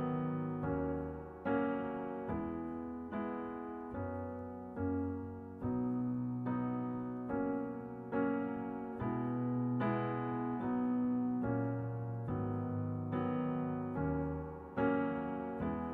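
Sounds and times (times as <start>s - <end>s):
slow piano chords: 0.0s - 15.9s.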